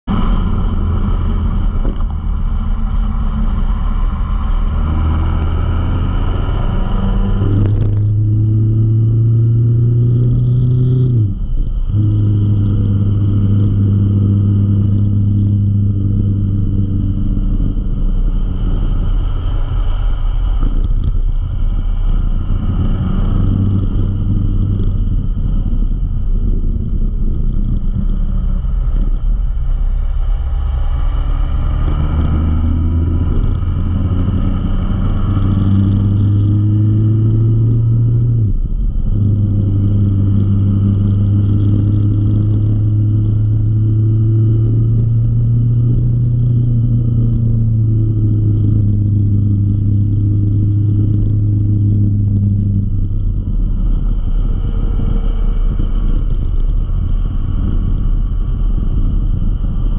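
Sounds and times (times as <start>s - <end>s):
motorcycle engine accelerating: 0.0s - 59.9s
wind noise on microphone: 0.0s - 59.9s.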